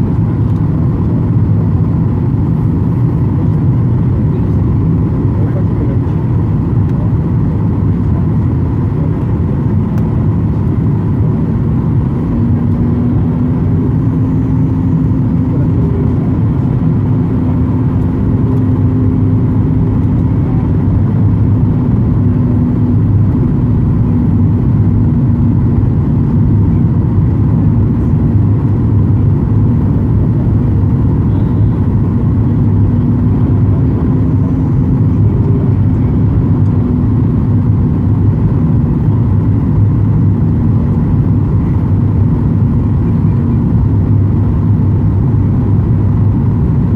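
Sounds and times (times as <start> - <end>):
airliner cabin rumble: 0.0 - 46.9
steady hum: 0.0 - 46.9.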